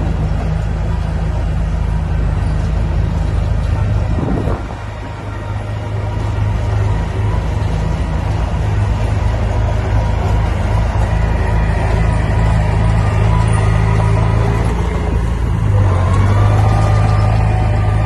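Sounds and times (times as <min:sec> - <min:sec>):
heavy machinery diesel engine: 0:00.0 - 0:18.0.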